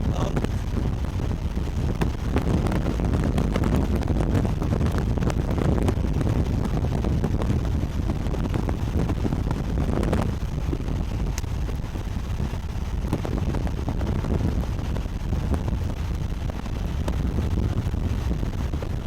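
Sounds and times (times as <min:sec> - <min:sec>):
road and wind noise in car: 0:00.0 - 0:19.0.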